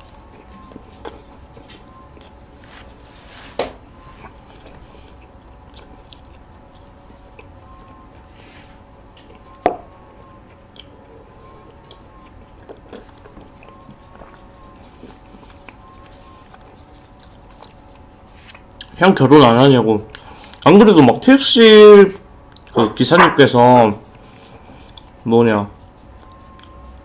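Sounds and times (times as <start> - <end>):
wet chewing: 0.0 - 3.1, 3.8 - 19.0, 22.5 - 22.8, 24.0 - 27.0.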